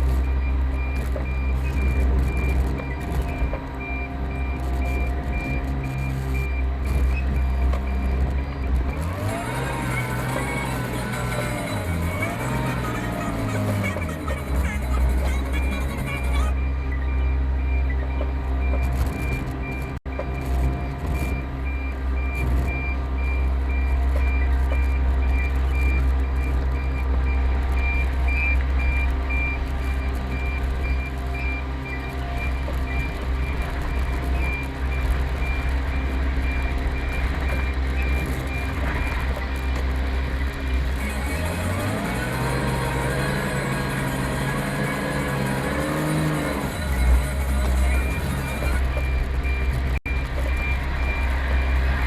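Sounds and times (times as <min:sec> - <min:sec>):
reversing beeper: 0:00.0 - 0:52.0
truck engine running: 0:00.0 - 0:52.0.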